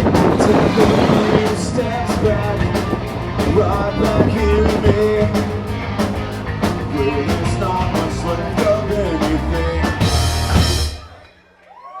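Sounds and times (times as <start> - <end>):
rock song: 0.0 - 11.2.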